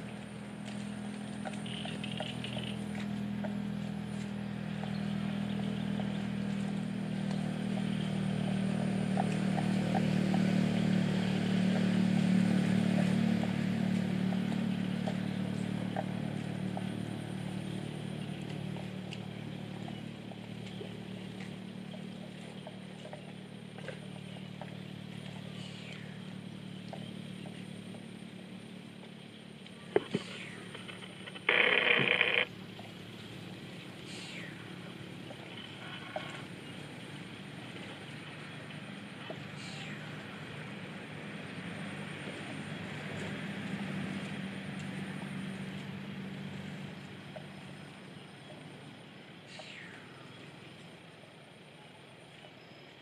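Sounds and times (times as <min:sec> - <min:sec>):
engine running: 0:00.0 - 0:53.0.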